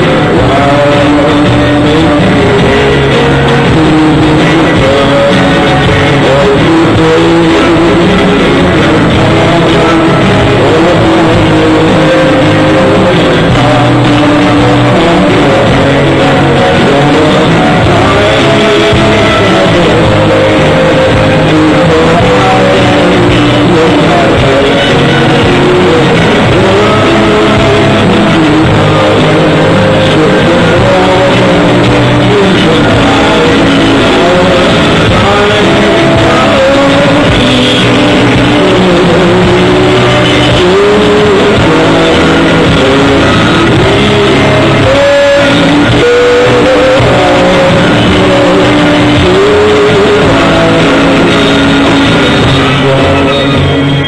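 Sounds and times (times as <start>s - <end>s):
loud rock song with vocals: 0.0s - 54.0s.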